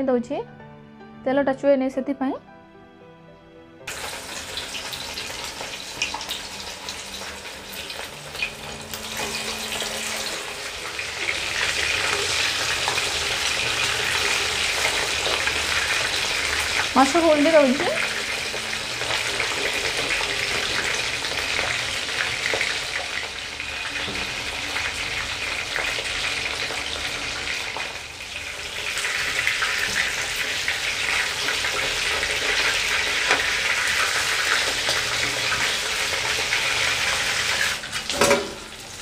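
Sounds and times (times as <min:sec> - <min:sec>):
fish sizzling in hot oil: 0:03.9 - 0:39.0.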